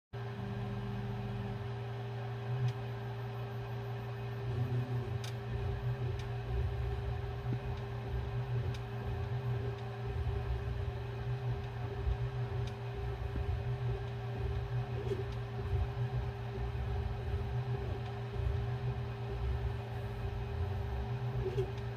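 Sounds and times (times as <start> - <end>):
steady hum: 0.2 - 21.9.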